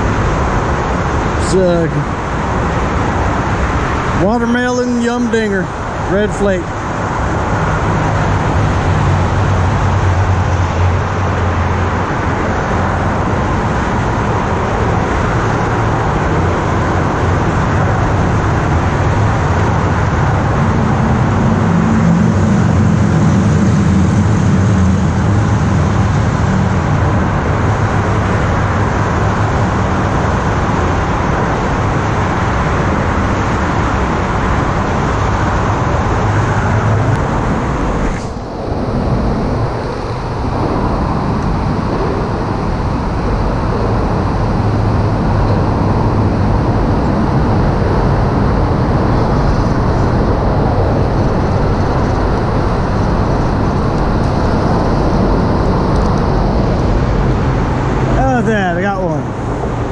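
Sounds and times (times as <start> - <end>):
highway traffic rumble: 0.0 - 59.9.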